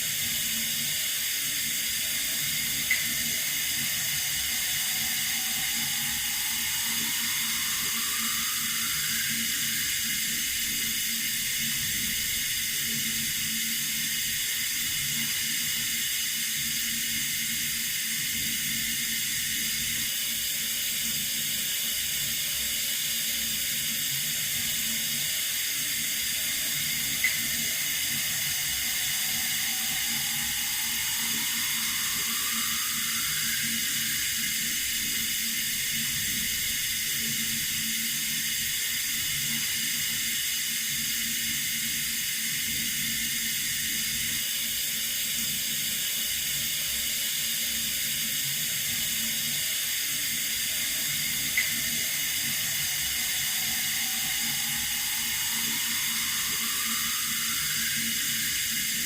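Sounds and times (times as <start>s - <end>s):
water running from a tap: 0.0s - 59.0s.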